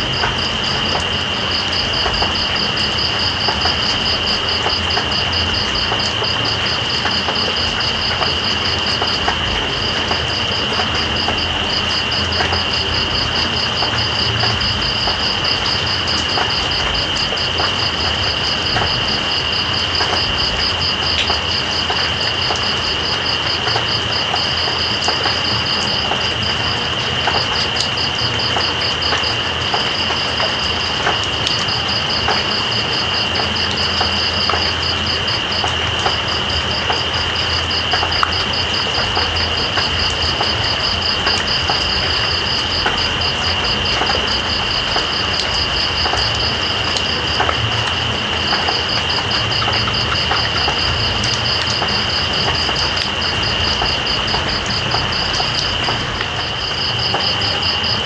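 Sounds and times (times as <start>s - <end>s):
steady rain hiss: 0.0s - 58.0s
water drip ticks: 0.0s - 58.0s.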